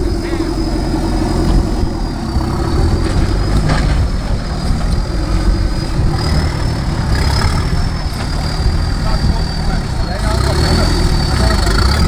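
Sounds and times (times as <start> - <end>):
engine low rumble: 0.0 - 12.0
high whine: 0.0 - 12.0.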